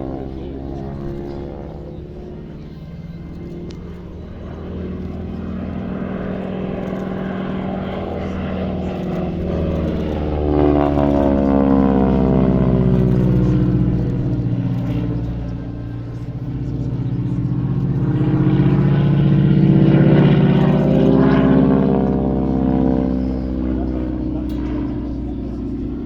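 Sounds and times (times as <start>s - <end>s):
propeller plane flyby: 0.0s - 26.0s.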